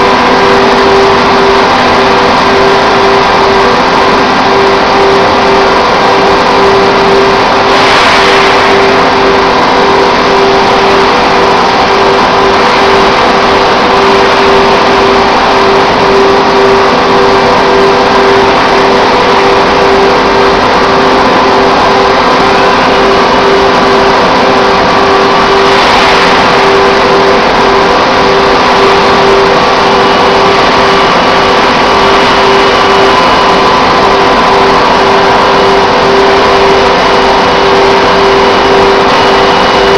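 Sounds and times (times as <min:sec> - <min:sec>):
machinery mechanical drone: 0:00.0 - 0:39.9.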